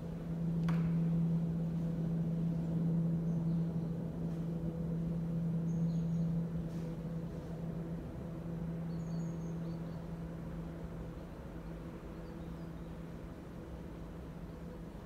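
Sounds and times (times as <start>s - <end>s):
power plant low hum: 0.0s - 15.0s.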